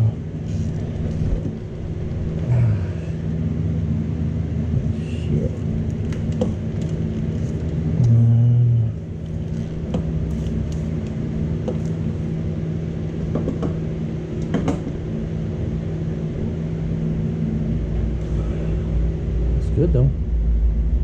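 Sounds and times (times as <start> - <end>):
loud low buzz: 0.0 - 21.0
steady mechanical hum: 0.0 - 21.0.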